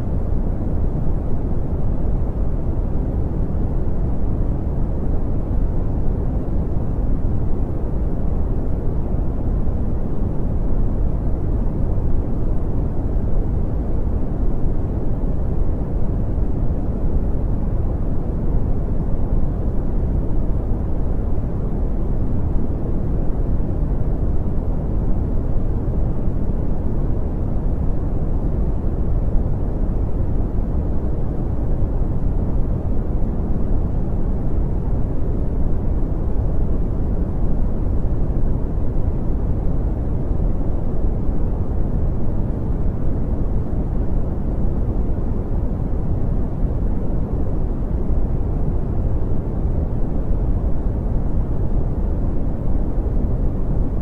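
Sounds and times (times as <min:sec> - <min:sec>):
deep rumbling brown noise: 0:00.0 - 0:54.0.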